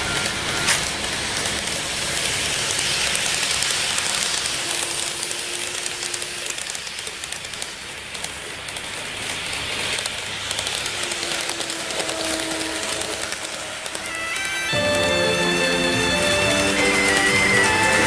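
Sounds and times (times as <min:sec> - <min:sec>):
model train wheels rolling on rails: 0:00.0 - 0:18.0.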